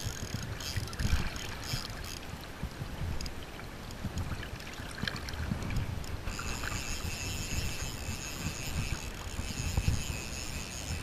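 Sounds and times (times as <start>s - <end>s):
river water lapping at bank: 0.0s - 11.0s.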